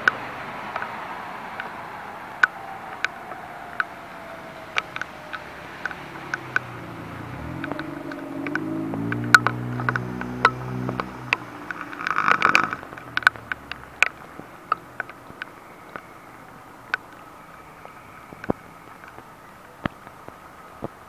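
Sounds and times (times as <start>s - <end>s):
vehicle engine running: 0.0s - 21.0s
sharp clicks and snaps: 2.4s - 21.0s.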